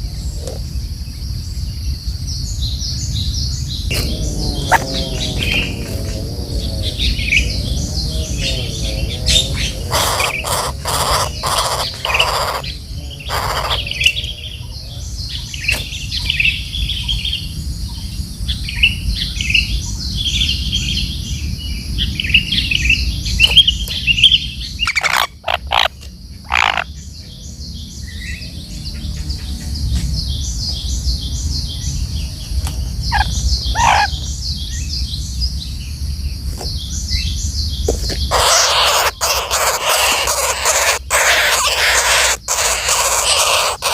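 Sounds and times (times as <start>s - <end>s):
steady low rumble: 0.0s - 24.9s, 26.1s - 38.4s
birds chirping: 0.0s - 43.9s.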